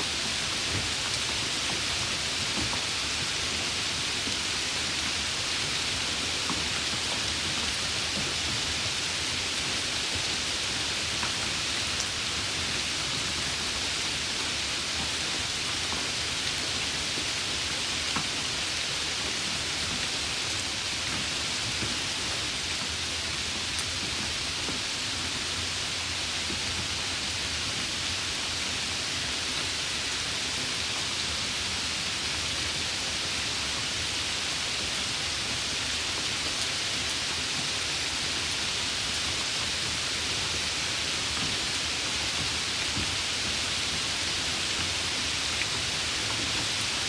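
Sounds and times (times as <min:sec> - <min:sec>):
steady rain hiss: 0:00.0 - 0:47.0.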